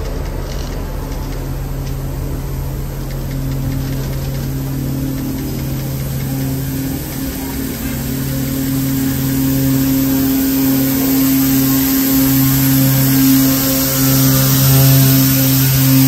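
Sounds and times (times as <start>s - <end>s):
diesel locomotive engine humming: 0.0s - 16.0s.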